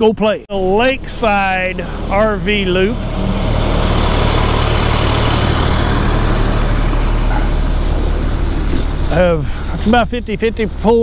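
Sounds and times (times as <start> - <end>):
low engine drone: 0.5 - 11.0
wind and road noise: 0.5 - 11.0.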